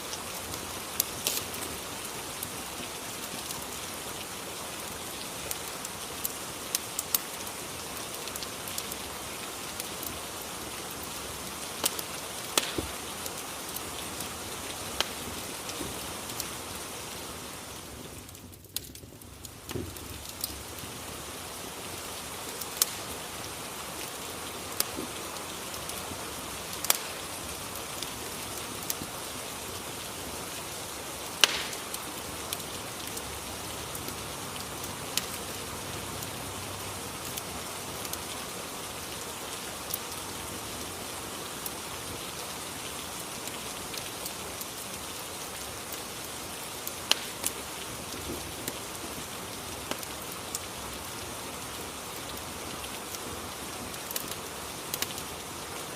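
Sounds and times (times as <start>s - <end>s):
open fire crackling: 0.0s - 55.9s
steady rain: 0.0s - 55.9s.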